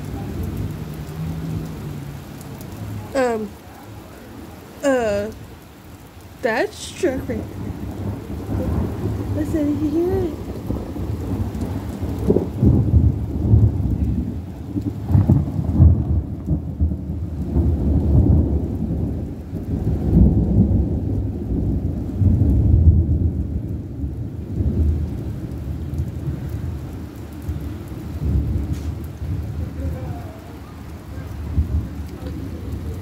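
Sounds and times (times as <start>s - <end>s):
rain falling: 0.0s - 33.0s
thunder rumbling: 0.0s - 33.0s.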